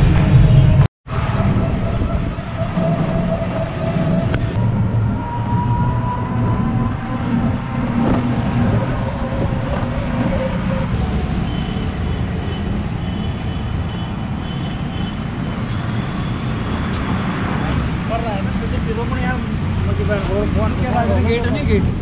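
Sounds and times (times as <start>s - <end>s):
road noise rumble with whine: 0.0s - 22.0s.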